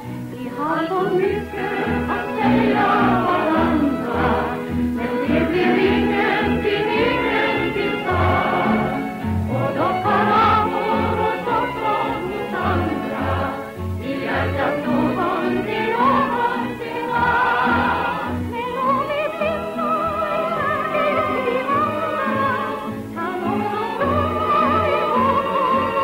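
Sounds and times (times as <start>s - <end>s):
woman singing: 0.0s - 26.0s.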